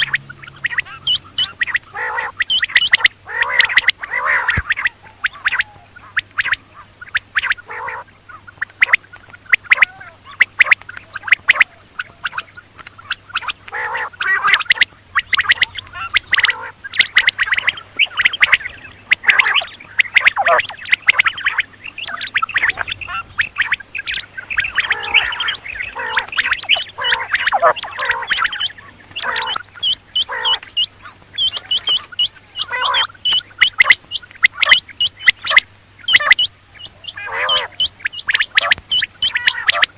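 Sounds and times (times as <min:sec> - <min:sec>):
quail chattering calls: 0:00.0 - 0:39.9.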